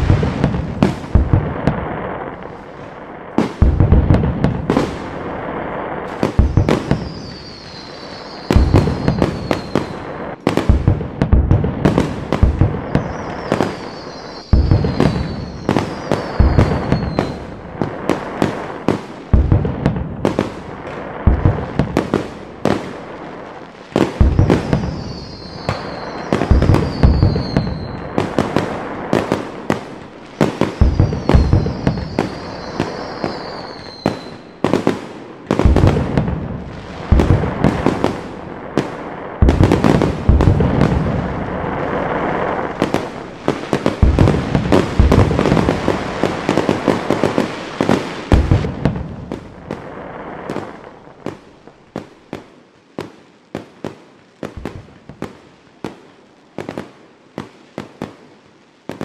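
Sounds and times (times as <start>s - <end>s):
firework shells booming: 0.0s - 23.2s, 24.0s - 52.1s.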